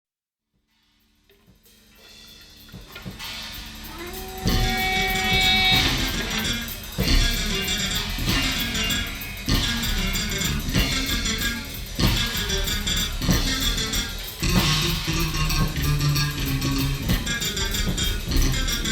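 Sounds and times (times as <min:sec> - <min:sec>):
free jazz band playing: 0:02.5 - 0:18.9.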